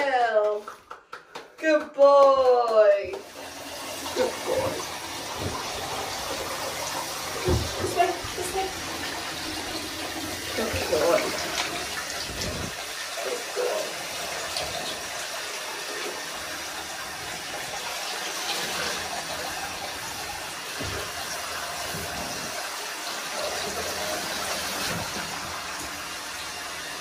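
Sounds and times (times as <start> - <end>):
shower spray on wet fur and tub: 3.1 - 27.0.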